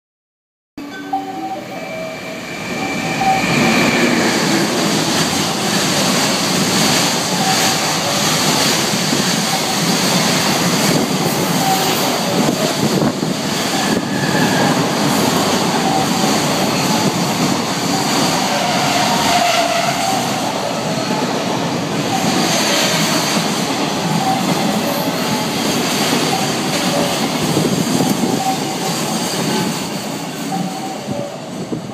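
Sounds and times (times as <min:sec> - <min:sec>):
freight train wheels rattling: 0:02.6 - 0:31.9.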